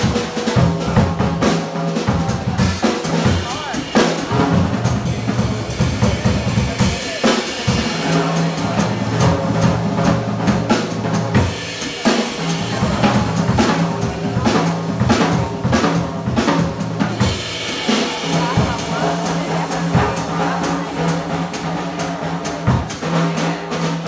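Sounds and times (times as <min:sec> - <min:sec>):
drum kit: 0:00.0 - 0:24.0
walking upright bass: 0:00.0 - 0:24.0.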